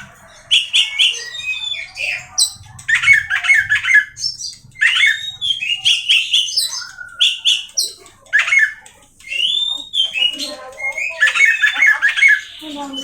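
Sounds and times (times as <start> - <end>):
bird singing whistled phrases and trills: 0.0 - 13.0.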